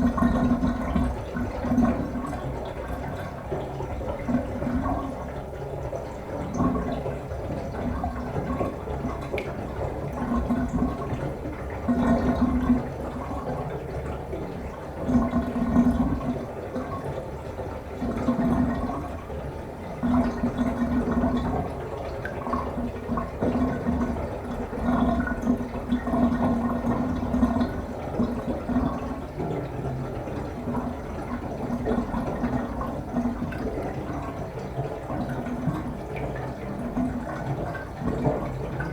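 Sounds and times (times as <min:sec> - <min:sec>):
water draining down plughole: 0:00.0 - 0:38.9.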